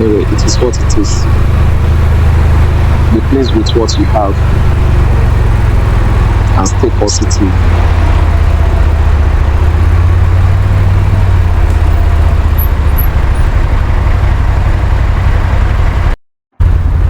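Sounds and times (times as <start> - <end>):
quad bike engine rumbling: 0.0 - 17.0
road noise: 0.0 - 17.0.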